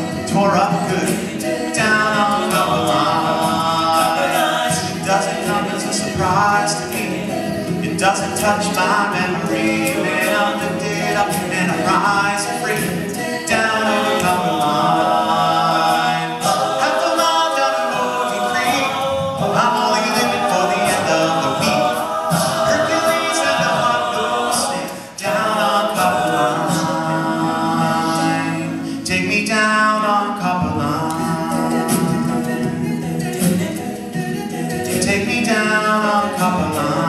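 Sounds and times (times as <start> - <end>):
male a cappella group singing: 0.0 - 37.0.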